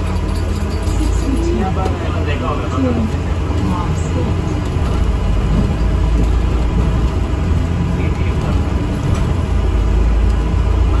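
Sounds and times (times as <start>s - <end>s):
bus rumbling in motion: 0.0s - 11.0s.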